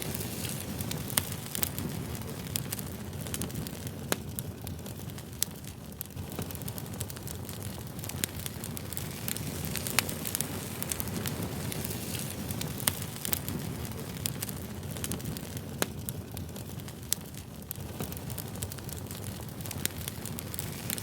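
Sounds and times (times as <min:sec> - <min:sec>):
campfire flames rushing: 0:00.0 - 0:21.0
fire crackling and popping: 0:00.0 - 0:21.0.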